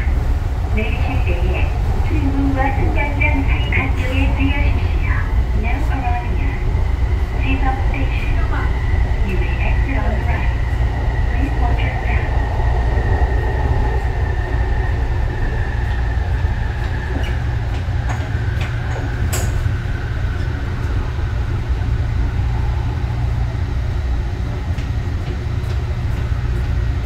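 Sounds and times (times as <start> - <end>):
thin whine of train: 0.0 - 27.0
train cabin rumble: 0.0 - 27.0.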